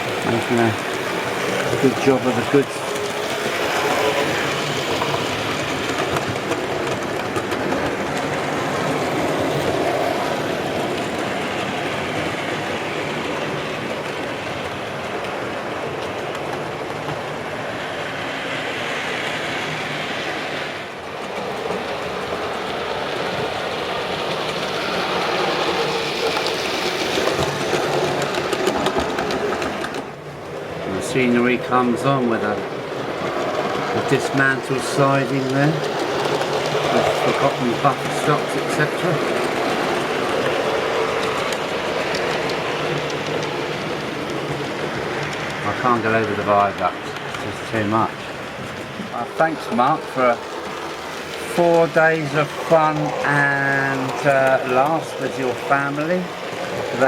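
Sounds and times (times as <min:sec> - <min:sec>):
model train wheels rolling on track: 0:00.0 - 0:57.0.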